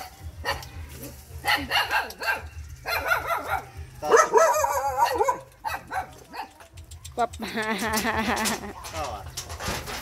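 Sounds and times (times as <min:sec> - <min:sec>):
dogs barking and yipping: 0:00.0 - 0:08.6.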